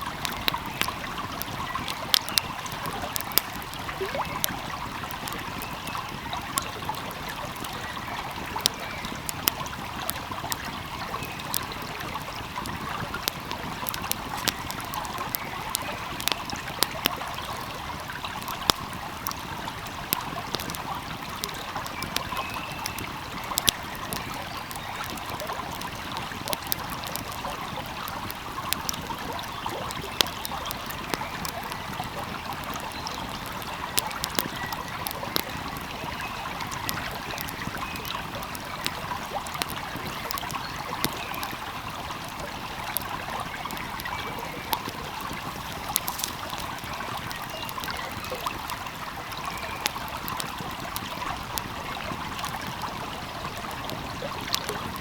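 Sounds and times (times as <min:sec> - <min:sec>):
stream flowing: 0:00.0 - 0:55.0
wood fire crackling: 0:00.0 - 0:55.0.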